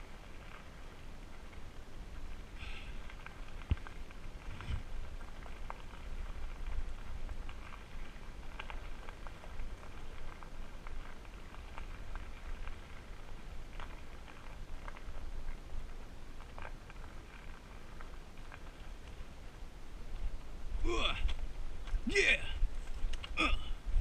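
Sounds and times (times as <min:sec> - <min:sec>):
tyres on gravel ticks and crackles: 0:00.0 - 0:24.0
wind rumble on microphone: 0:00.0 - 0:24.0.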